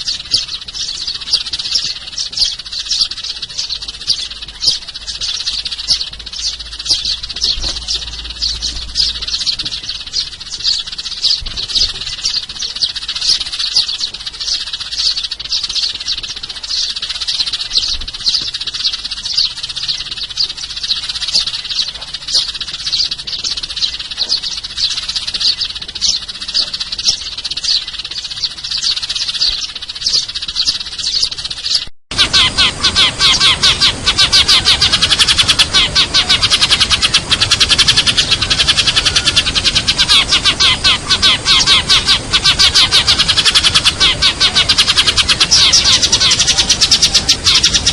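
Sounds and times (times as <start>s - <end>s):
sparrows chirping: 0.0s - 47.9s.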